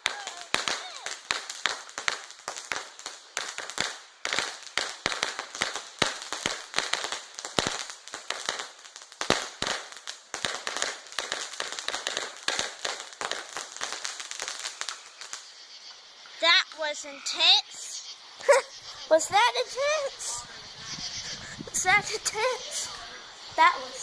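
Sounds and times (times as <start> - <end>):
firecrackers banging: 0.0 - 15.6, 16.3 - 24.0.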